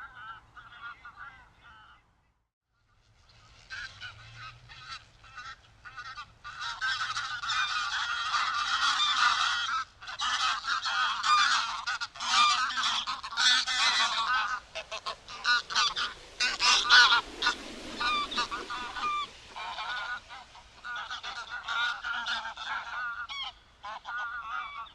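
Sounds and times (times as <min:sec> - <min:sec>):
geese honking: 0:00.0 - 0:02.0, 0:03.5 - 0:24.9.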